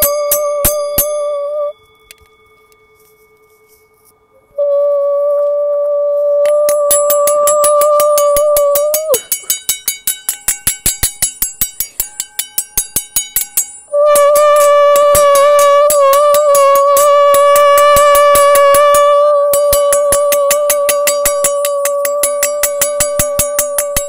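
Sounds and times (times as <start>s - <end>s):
steady pure tone: 0.0s - 24.0s.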